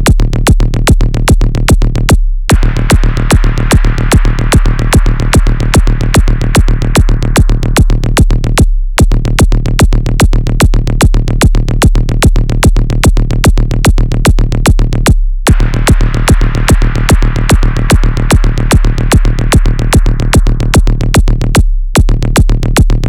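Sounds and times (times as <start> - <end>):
deep bass: 0.0 - 23.0
drum machine beat: 0.1 - 23.0.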